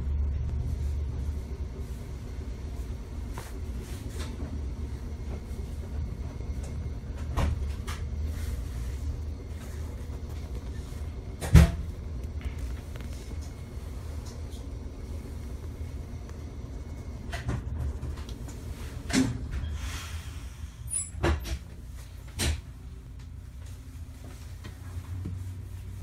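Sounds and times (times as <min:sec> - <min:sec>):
streetcar low rumble: 0:00.0 - 0:26.0.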